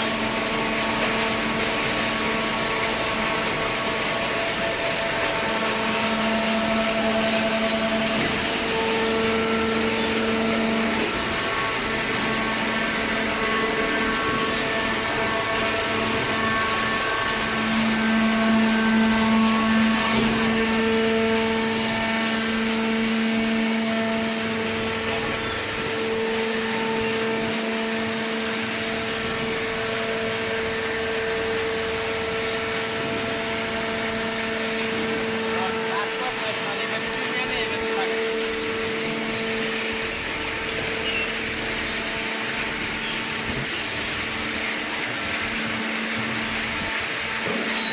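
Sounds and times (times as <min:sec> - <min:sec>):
held machine whine: 0:00.0 - 0:47.9
hydraulic machine drone: 0:00.0 - 0:47.9.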